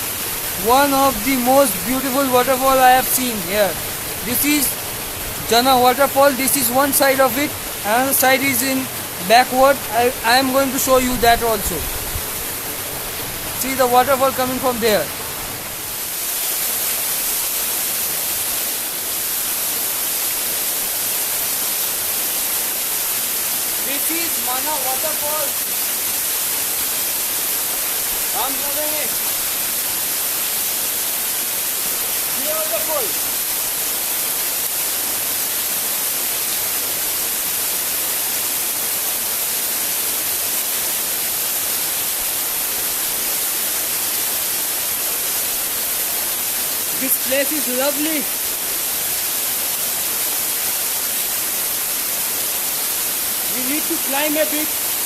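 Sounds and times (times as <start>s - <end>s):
waterfall hiss: 0.0s - 55.0s.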